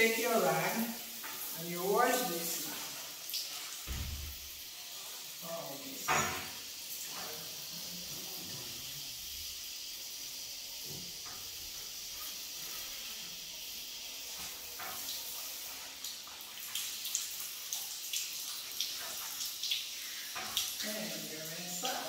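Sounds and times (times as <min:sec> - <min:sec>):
shower head spraying water: 0:00.0 - 0:22.0.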